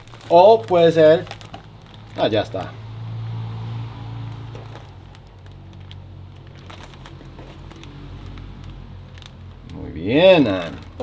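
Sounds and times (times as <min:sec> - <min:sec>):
plastic bag crinkling: 0:00.0 - 0:02.8, 0:04.2 - 0:11.0.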